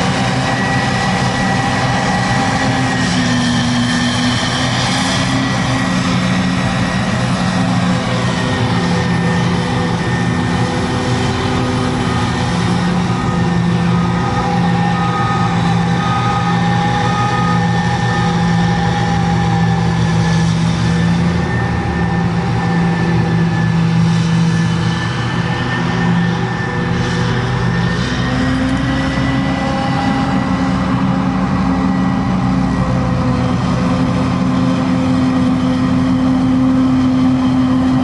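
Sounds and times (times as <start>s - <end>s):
diesel engines running: 0.0s - 38.0s
high whine: 0.0s - 38.0s.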